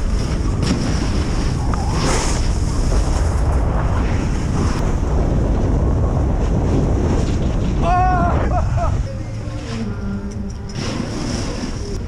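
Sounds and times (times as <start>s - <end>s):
sliding on snow: 0.0s - 10.2s, 10.8s - 12.0s
wind rushing over microphone: 0.0s - 12.0s.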